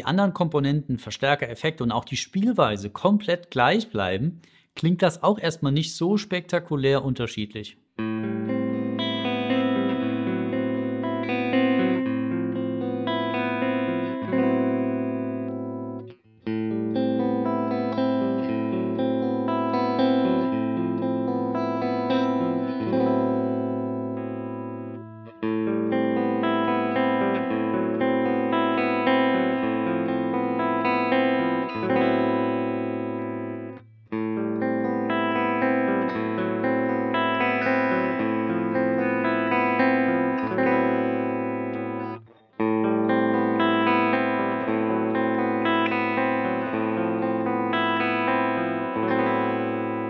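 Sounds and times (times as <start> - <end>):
electric guitar through amplifier: 8.0 - 50.0.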